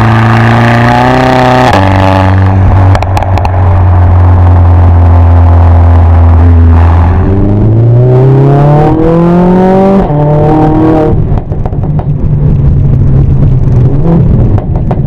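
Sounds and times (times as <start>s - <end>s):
car engine running loud: 0.0s - 15.0s
exhaust cracks: 0.0s - 15.0s.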